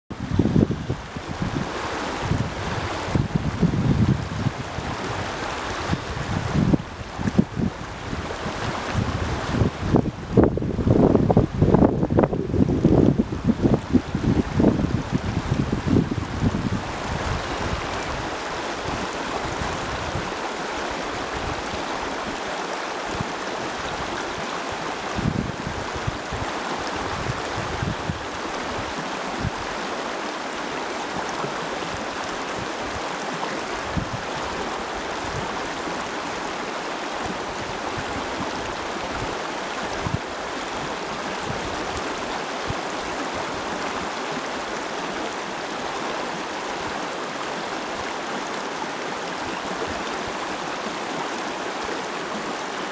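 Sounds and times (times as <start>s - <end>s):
fast river rushing: 0.1s - 52.9s.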